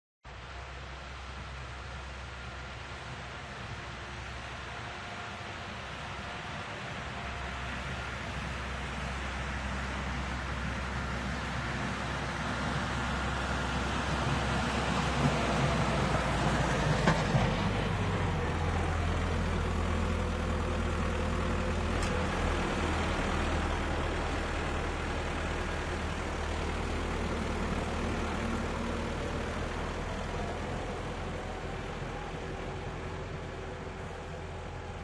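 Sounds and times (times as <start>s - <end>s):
tractor engine idling: 0.4s - 35.0s.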